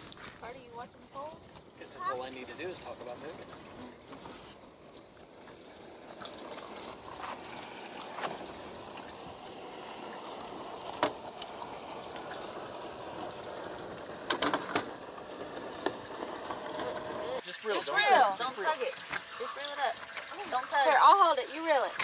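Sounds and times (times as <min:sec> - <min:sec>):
water lapping at a boat: 0:00.0 - 0:22.0.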